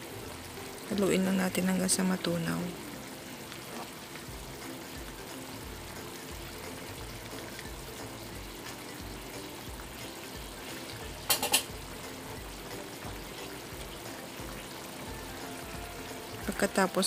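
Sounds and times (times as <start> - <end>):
sauce bubbling in frying pan: 0.0 - 17.0.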